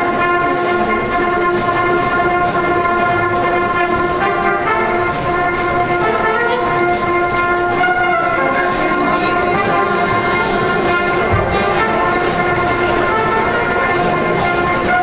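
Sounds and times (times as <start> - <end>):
brass band playing chords: 0.0 - 15.0
percussion beat: 0.0 - 15.0.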